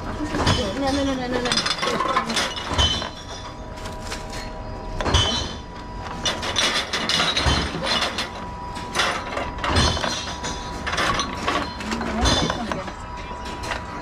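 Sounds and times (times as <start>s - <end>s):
bottles clinking and knocking: 0.3s - 3.7s, 4.3s - 13.9s.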